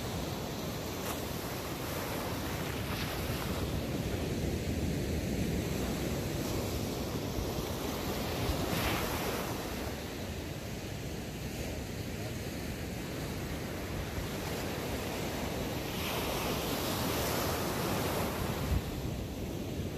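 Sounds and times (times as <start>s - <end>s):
ocean surf breaking on sand: 0.0s - 19.9s.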